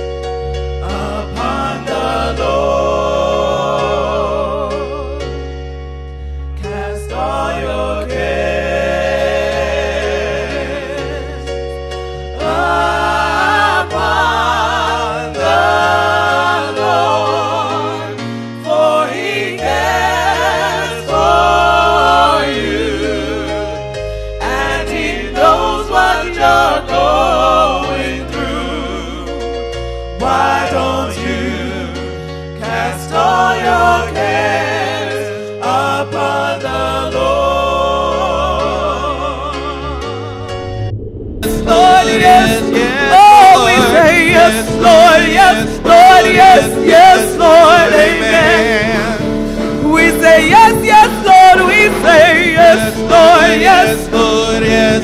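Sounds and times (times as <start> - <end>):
gospel singing with vibrato: 0.0 - 55.0
instrumental backing with bass line: 0.0 - 55.0.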